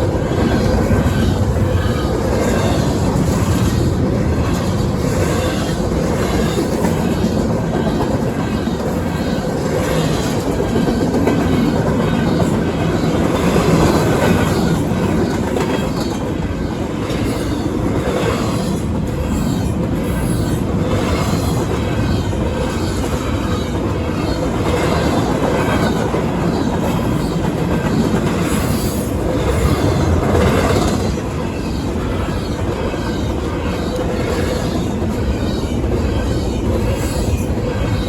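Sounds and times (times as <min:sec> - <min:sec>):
freight train rumble: 0:00.0 - 0:38.0
train wheels clacking over rail joints: 0:00.0 - 0:38.0.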